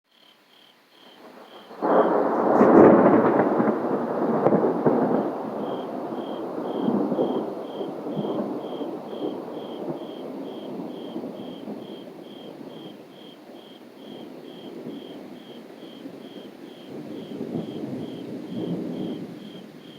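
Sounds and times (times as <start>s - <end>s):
faint insect chirping: 0.1s - 2.6s, 5.0s - 19.9s
thunder crack and rumble: 1.3s - 19.9s.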